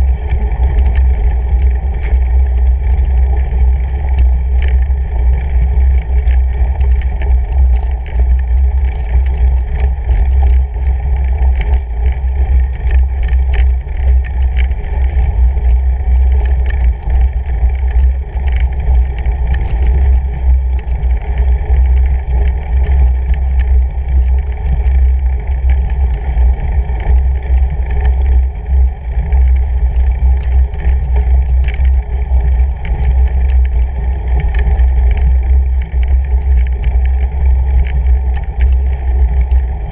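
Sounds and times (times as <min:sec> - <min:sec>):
bike tyre rumbling on snow: 0:00.0 - 0:39.9
small clicks and rattles: 0:00.0 - 0:39.9.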